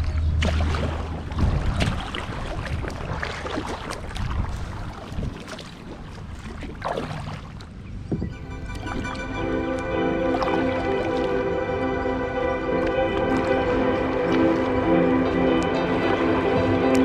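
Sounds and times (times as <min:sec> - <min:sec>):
paddle splashing water: 0:00.0 - 0:17.0
water lapping around hull: 0:00.0 - 0:17.0.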